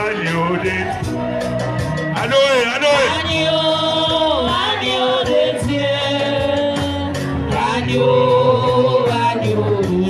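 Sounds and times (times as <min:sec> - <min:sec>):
sung hymn with instrumental backing: 0:00.0 - 0:10.0.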